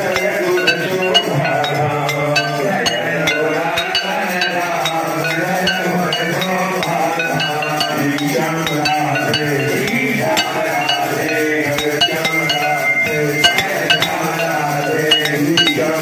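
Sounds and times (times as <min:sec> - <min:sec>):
sharp metallic clinks: 0:00.0 - 0:16.0.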